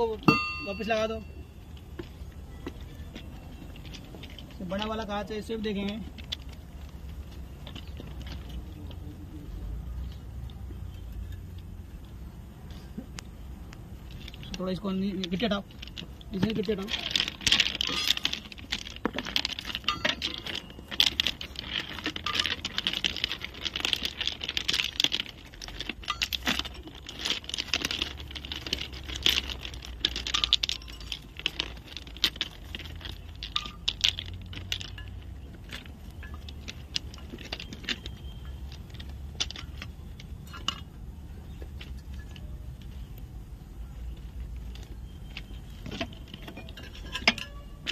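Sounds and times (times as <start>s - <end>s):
ballast stones clinking and scraping: 0.0s - 47.9s.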